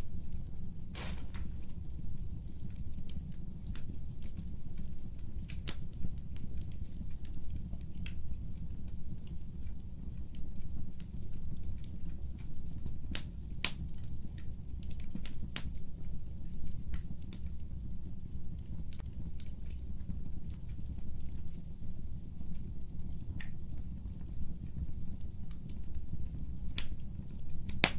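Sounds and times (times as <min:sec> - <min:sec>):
fire crackling and popping: 0:00.1 - 0:27.9.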